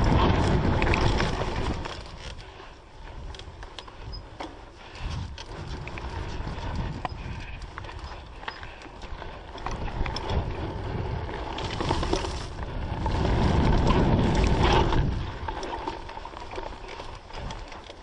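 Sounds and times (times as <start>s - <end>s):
wind buffeting microphone: 0.0s - 17.9s
bike chain and frame rattling: 0.0s - 18.0s
bike tyre rumble: 0.0s - 18.0s.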